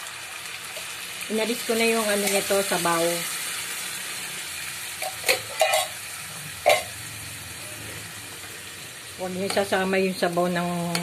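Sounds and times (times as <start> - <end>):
chicken and mushrooms sizzling: 0.0 - 11.0.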